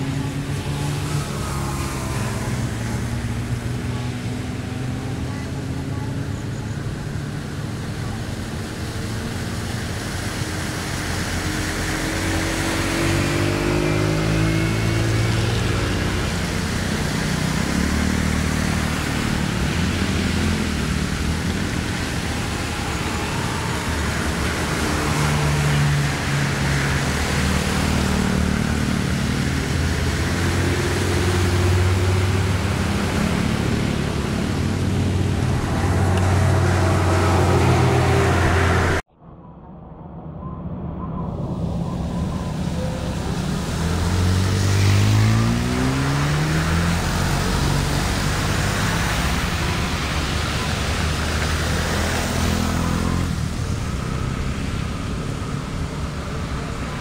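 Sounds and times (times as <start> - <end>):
tyres splashing through water: 0.0 - 39.0, 42.5 - 57.0
vehicle engines passing: 0.0 - 39.1, 41.0 - 57.0.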